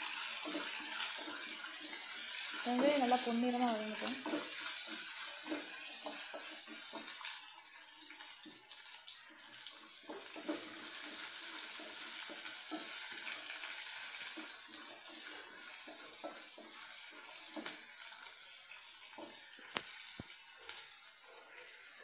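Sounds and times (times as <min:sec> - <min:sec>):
onions sizzling in hot oil: 0:00.0 - 0:22.0
spatula scraping and knocking pan: 0:00.1 - 0:07.4, 0:09.9 - 0:22.0.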